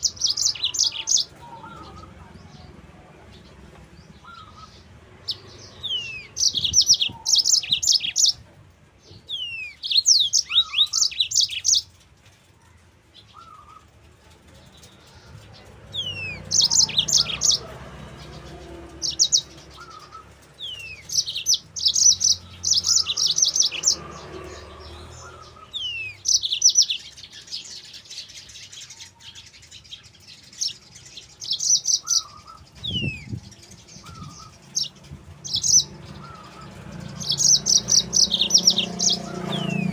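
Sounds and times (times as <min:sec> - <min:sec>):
canary singing trills: 0:00.0 - 0:12.4, 0:13.0 - 0:39.9.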